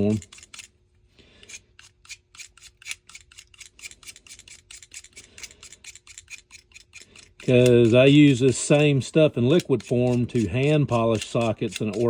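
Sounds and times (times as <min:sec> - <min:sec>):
knife scraping polishing bar: 0:00.0 - 0:00.8, 0:01.4 - 0:12.0.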